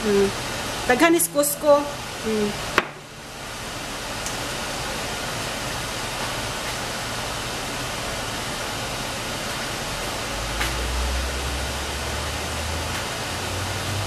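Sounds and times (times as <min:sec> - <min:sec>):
gas stove hissing: 0:00.0 - 0:14.0.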